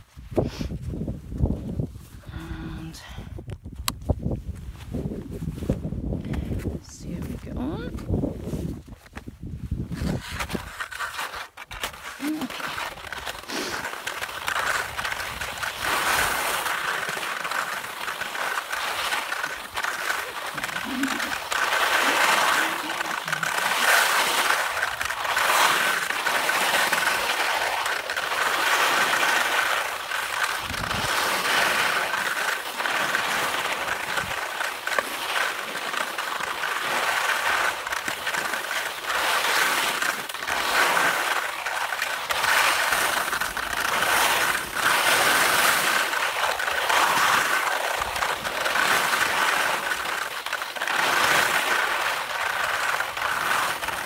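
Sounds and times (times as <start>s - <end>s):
skis scraping over snow: 4.1s - 54.0s.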